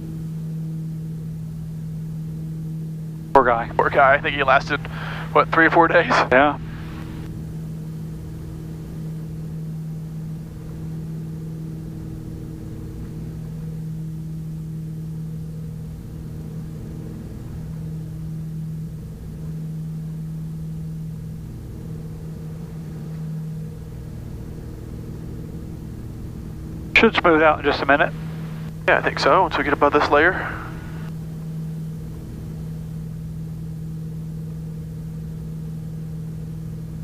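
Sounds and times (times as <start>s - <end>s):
propeller plane cabin drone: 0.0s - 37.0s.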